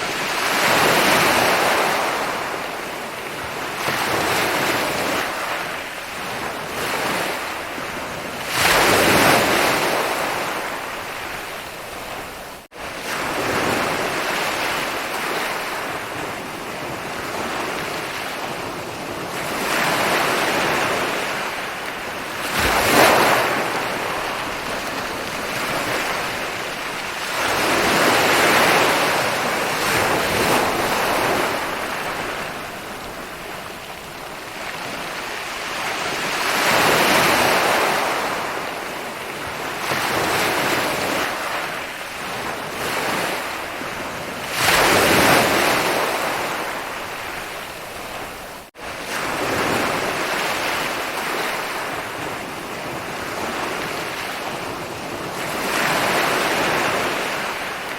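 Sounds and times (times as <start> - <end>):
ocean waves breaking: 0.0 - 57.9.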